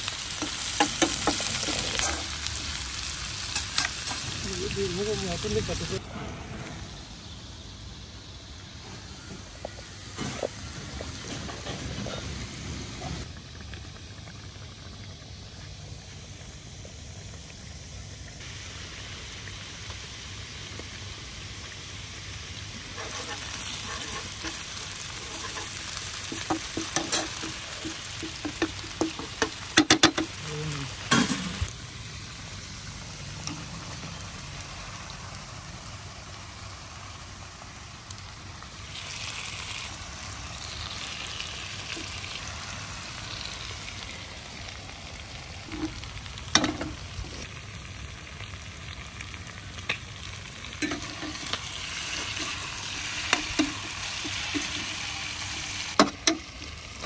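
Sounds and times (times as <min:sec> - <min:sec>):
food sizzling in oil: 0:00.0 - 0:06.0, 0:06.8 - 0:57.0.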